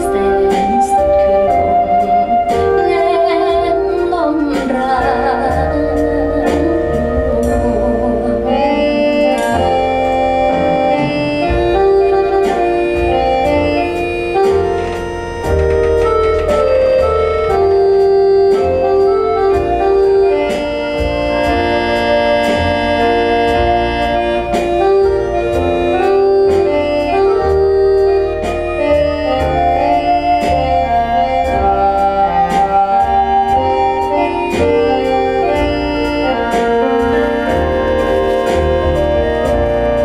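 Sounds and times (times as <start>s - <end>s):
instrumental music over loudspeakers: 0.0s - 40.0s.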